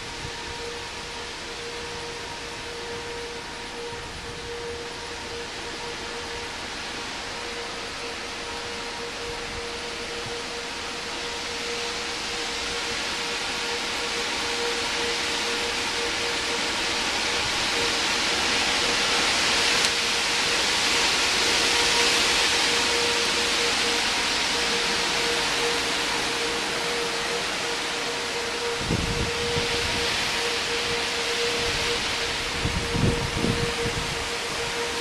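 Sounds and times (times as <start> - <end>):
loud wind noise: 0.0 - 35.0
warning siren wailing: 0.0 - 35.0.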